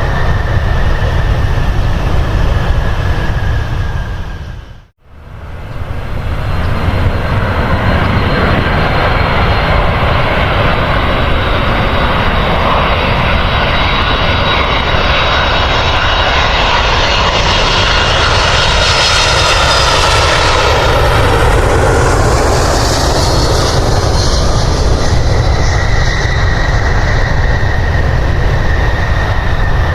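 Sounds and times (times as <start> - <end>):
airliner engines rushing: 0.0 - 29.9.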